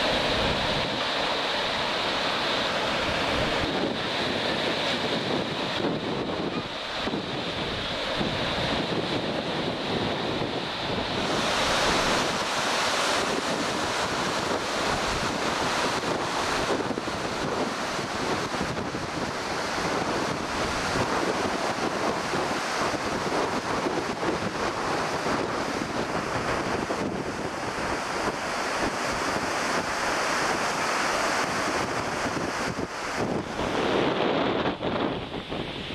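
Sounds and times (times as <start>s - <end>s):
surf washing onto rocks: 0.0s - 35.9s
wind buffeting microphone: 0.0s - 35.9s.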